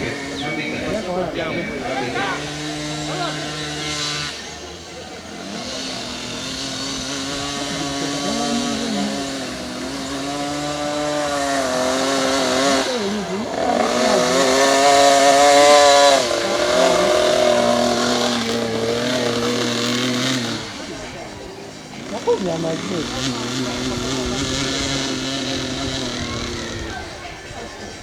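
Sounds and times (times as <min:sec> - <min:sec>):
motocross bike engines: 0:00.0 - 0:28.0.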